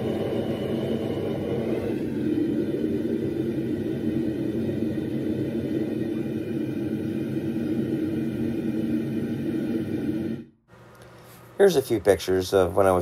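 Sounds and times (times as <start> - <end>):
forge burners roaring: 0.0 - 13.0.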